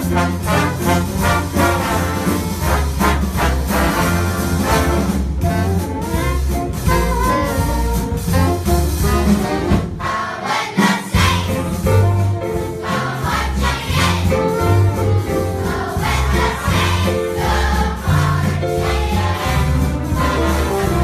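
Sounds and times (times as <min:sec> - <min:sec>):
jazz band playing swing: 0:00.0 - 0:21.0.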